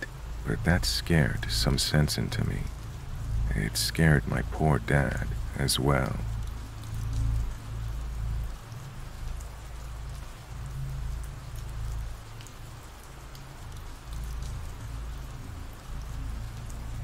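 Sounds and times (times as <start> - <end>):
raindrops pattering: 0.0 - 17.0
steady rain falling: 0.0 - 17.0.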